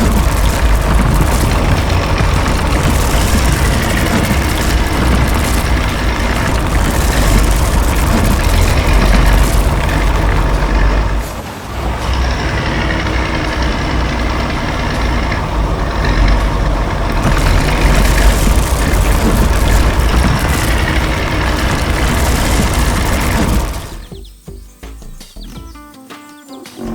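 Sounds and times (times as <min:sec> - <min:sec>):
heavy vehicle engine running: 0:00.0 - 0:24.2.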